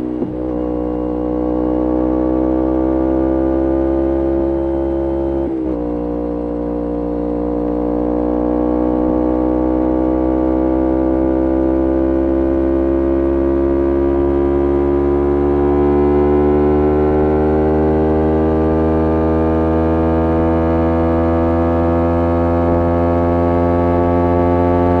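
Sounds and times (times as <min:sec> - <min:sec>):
motorcycle engine exhaust drone: 0:00.0 - 0:25.0.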